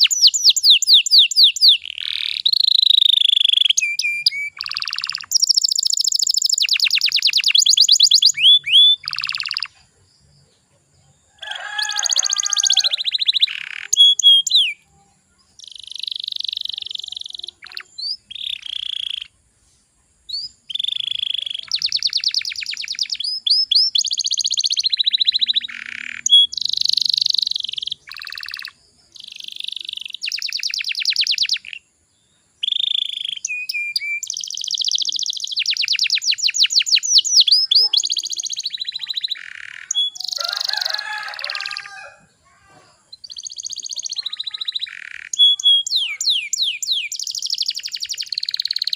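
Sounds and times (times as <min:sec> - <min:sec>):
canary singing trills: 0:00.0 - 0:19.4, 0:20.3 - 0:48.9.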